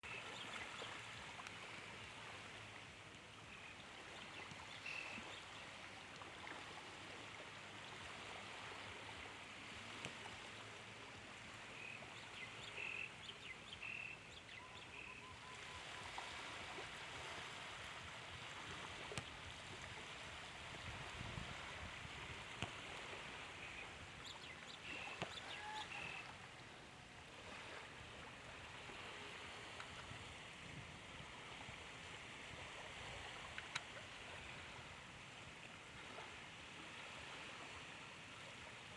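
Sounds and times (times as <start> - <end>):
gentle sea waves on a beach: 0.0 - 38.9.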